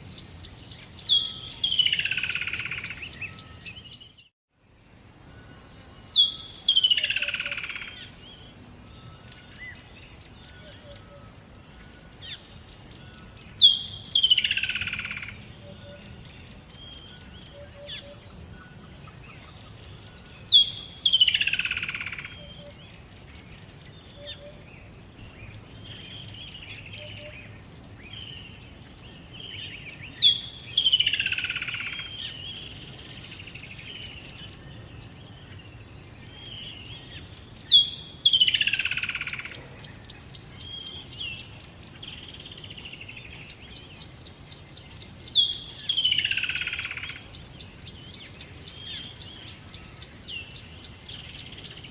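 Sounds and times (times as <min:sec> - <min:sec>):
birds singing: 0:00.0 - 0:51.9
soft bird chirps: 0:00.0 - 0:51.9.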